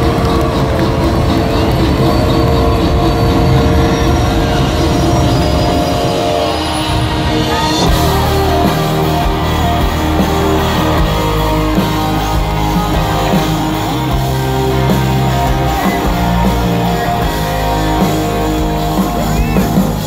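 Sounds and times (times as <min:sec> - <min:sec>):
electric guitars: 0:00.0 - 0:20.0
held bass notes: 0:00.0 - 0:20.0.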